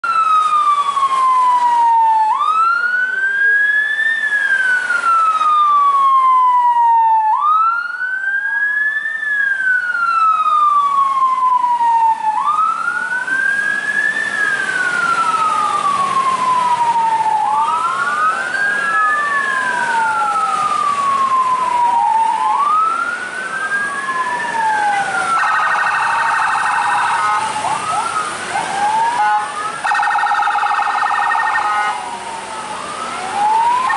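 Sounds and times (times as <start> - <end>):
siren wailing: 0.0 - 33.9.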